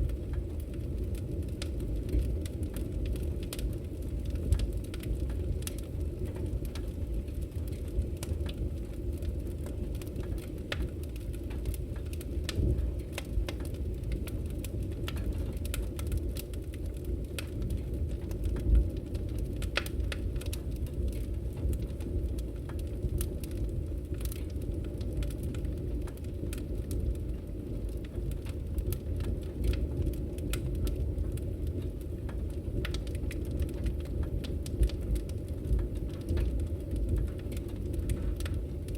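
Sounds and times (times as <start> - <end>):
fire burning in wood stove: 0.0 - 38.9
fire crackles and pops: 0.0 - 38.9.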